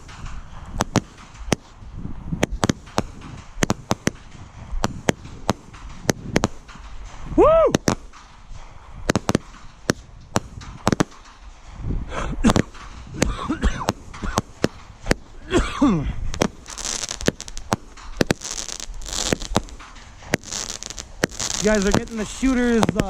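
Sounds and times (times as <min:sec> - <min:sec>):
fireworks bangs: 0:00.0 - 0:23.0
high hissing spray of fireworks: 0:00.0 - 0:23.0.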